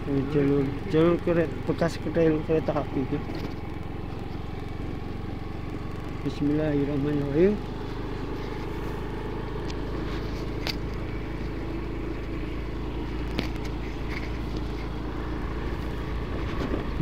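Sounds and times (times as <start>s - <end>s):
small motorbike engine running: 0.0s - 17.0s.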